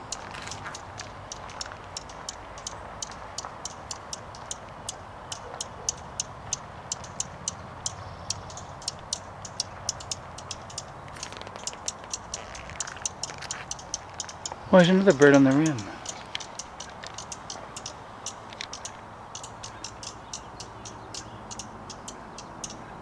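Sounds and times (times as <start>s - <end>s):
songbird alarm chirps: 0.0s - 23.0s.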